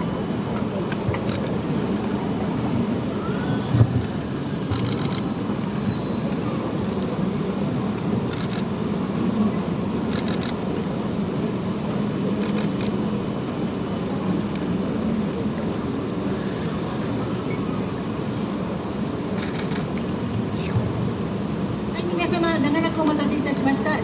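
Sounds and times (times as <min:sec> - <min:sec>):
low outdoor background noise: 0:00.0 - 0:24.0.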